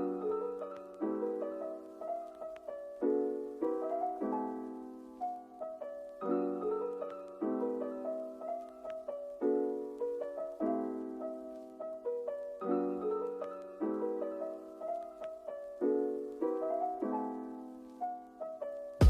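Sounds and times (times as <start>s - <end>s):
soft piano chords: 0.0s - 19.0s.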